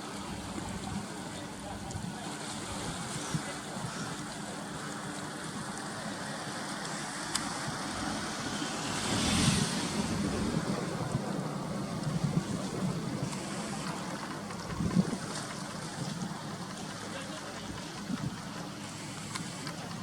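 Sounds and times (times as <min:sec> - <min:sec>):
water: 0:00.0 - 0:20.0
wind: 0:00.0 - 0:20.0.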